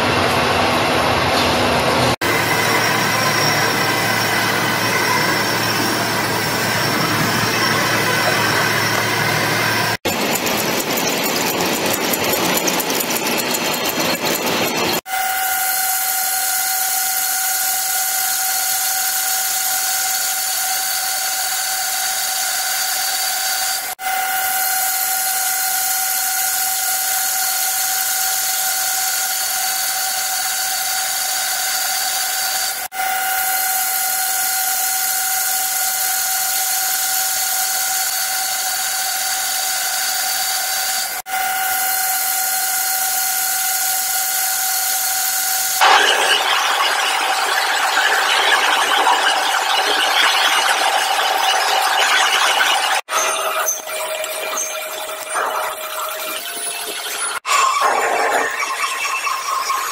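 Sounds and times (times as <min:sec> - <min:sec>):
metal lathe cutting steel: 0:00.0 - 0:59.9.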